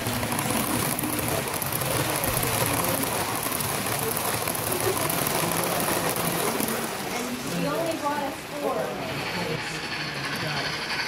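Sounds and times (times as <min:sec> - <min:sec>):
model train wheels whirring: 0:00.0 - 0:11.0.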